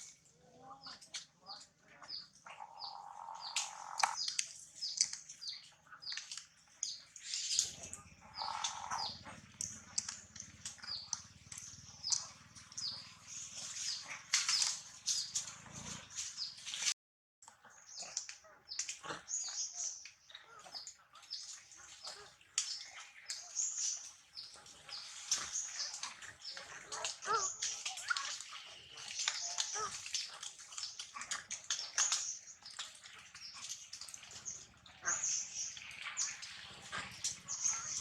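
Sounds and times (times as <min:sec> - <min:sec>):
small birds chirping: 0:00.0 - 0:16.9, 0:17.5 - 0:38.0.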